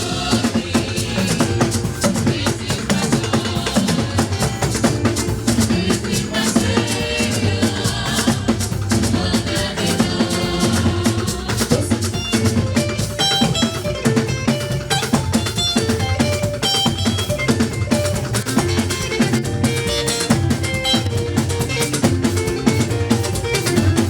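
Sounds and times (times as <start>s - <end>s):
church band music: 0.0s - 24.0s
drum kit beat: 0.0s - 24.0s.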